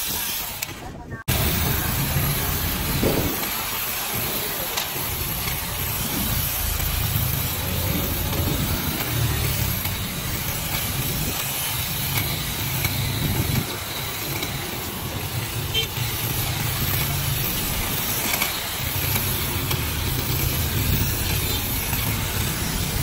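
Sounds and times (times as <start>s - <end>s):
cordless shrub trimmer cutting leaves: 0.0s - 23.0s
steady hiss: 0.0s - 23.0s.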